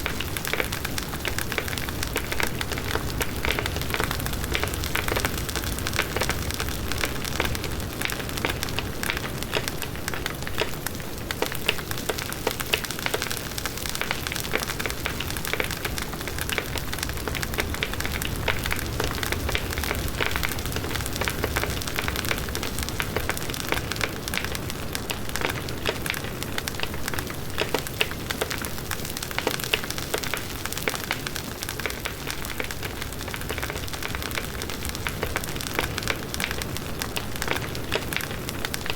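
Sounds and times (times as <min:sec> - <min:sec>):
burning wood crackling and popping: 0:00.0 - 0:38.9
rush of bonfire flames: 0:00.0 - 0:38.9.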